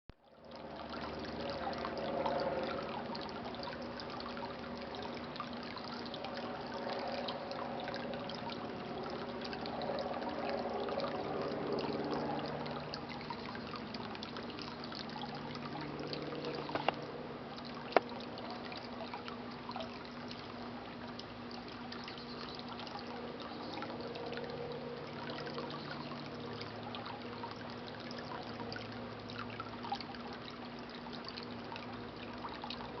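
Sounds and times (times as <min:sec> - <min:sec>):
fountain water trickling: 0:00.2 - 0:33.0
steady low hum: 0:00.3 - 0:33.0.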